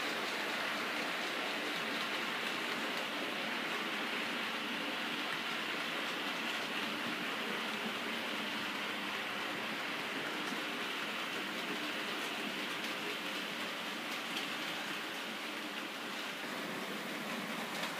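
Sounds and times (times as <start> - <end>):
model train rolling on track: 0.0 - 17.9.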